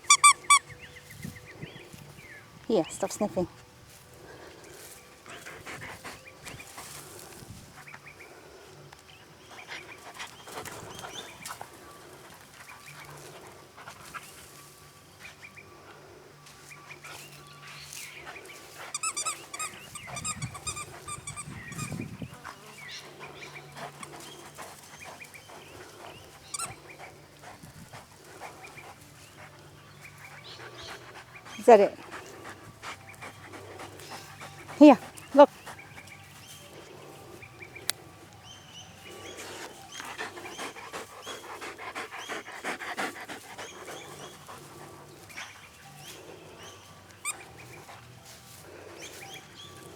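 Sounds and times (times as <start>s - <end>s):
dog sniffing: 3.0s - 8.4s, 9.2s - 15.6s, 16.5s - 49.9s.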